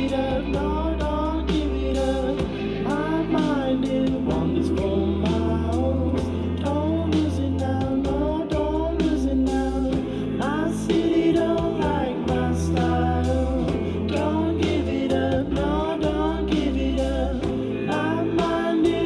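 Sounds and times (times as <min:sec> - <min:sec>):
band song through speakers: 0:00.0 - 0:19.0.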